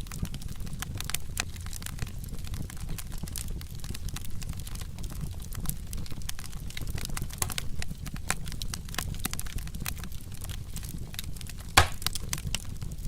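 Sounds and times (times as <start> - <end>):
low rumble of flames: 0.0 - 13.0
wood fire popping: 0.0 - 13.0.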